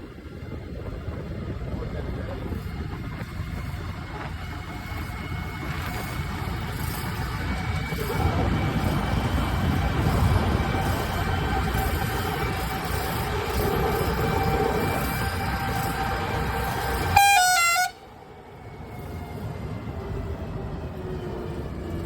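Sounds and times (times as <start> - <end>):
diesel engine low rumble: 0.0 - 22.0.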